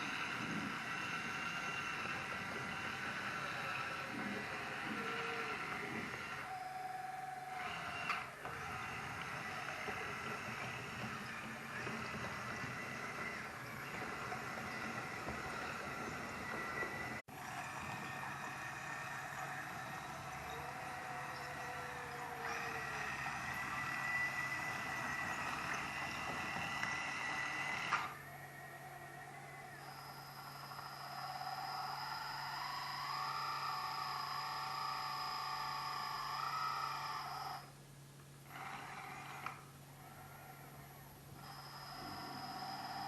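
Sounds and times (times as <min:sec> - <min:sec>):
hydraulic pump whirring: 0:00.0 - 0:37.8, 0:38.4 - 0:43.0.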